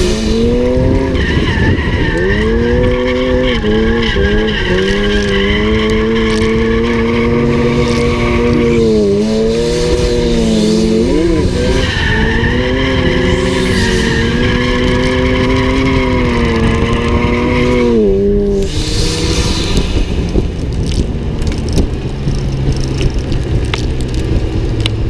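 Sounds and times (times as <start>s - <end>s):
car engine revving high: 0.0s - 21.0s
tires skidding: 0.0s - 25.0s.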